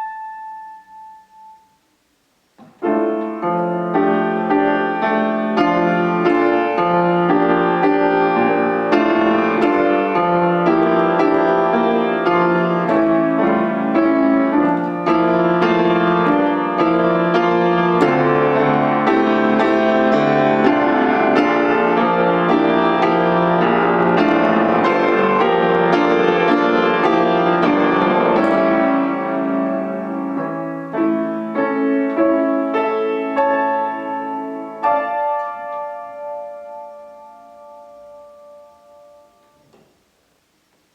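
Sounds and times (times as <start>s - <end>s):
piano playing quick notes: 2.6s - 39.7s.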